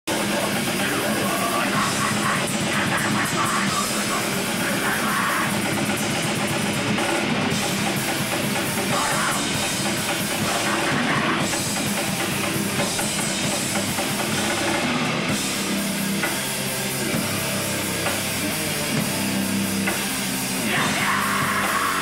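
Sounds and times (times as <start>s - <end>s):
bass guitar: 0.0s - 22.0s
distorted guitars: 0.0s - 22.0s
fast drums: 0.0s - 22.0s.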